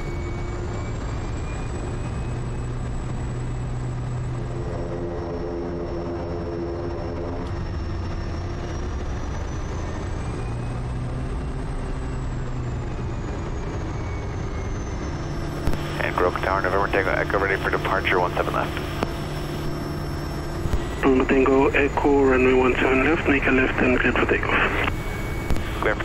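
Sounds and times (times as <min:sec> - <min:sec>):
turboprop engine droning: 0:00.0 - 0:26.0.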